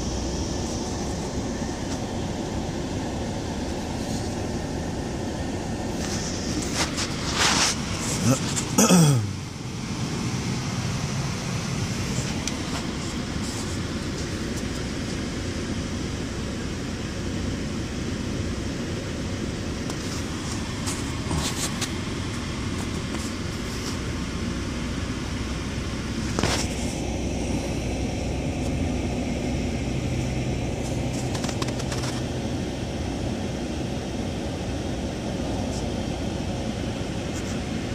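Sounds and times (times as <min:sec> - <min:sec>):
car engine and tyre noise: 0:00.0 - 0:37.9.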